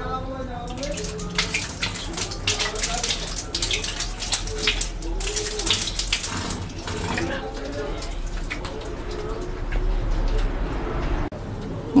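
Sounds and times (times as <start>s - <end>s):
water boiling and bubbling: 0.7s - 10.8s.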